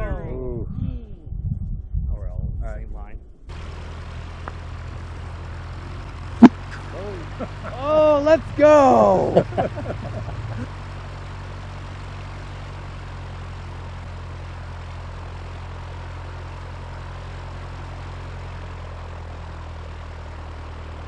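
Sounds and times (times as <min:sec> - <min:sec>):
propeller airplane engine drone: 0:03.3 - 0:21.0.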